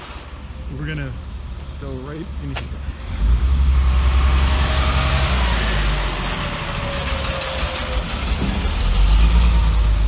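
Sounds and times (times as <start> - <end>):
tow truck engine rumbling: 0.0 - 10.0.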